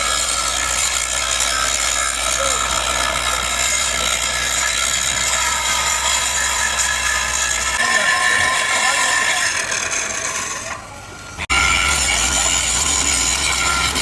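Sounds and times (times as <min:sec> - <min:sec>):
clattering metal machinery: 0:00.0 - 0:14.0.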